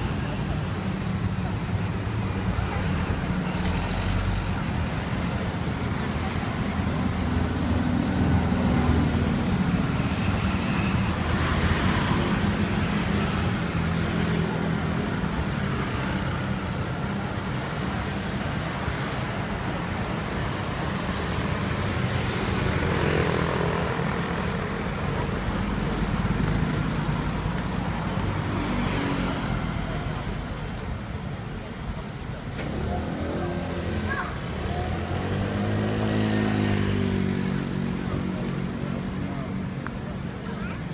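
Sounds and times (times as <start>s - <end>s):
cars and scooters passing: 0.0s - 40.9s
vehicle engines running: 0.0s - 40.9s.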